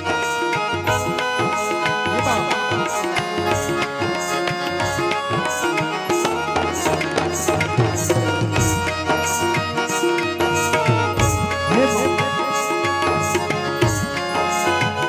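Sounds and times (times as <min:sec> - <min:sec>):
electronic keyboard melody: 0:00.0 - 0:15.0
high ticking beat: 0:00.0 - 0:15.0
tabla strokes: 0:00.0 - 0:15.0.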